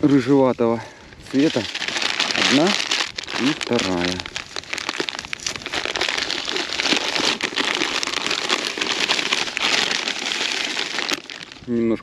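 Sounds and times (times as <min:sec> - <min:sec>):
crumbs pouring and rustling: 0:01.2 - 0:11.8.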